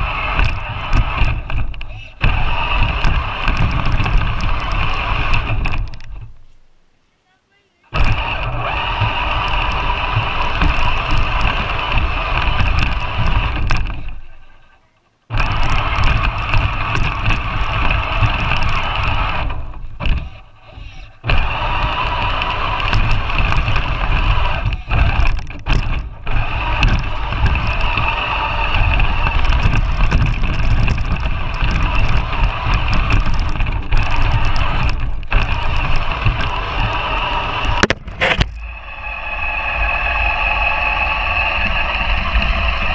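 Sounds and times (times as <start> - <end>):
electric motor whining: 0.0 - 6.3, 7.9 - 14.7, 15.3 - 42.9.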